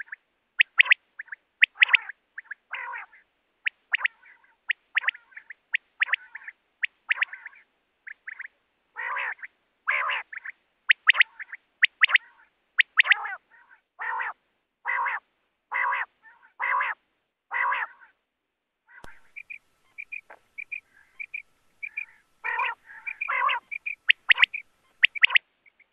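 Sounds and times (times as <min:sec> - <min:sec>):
harsh quail calls: 0:00.0 - 0:18.2, 0:18.8 - 0:25.9
quail calling: 0:00.0 - 0:18.2, 0:18.9 - 0:25.9.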